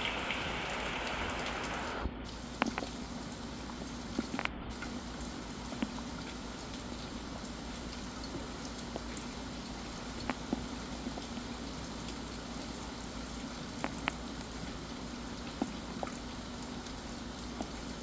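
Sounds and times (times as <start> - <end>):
raindrops ticking on a surface: 0.0 - 18.0
steady rain hiss: 0.0 - 18.0.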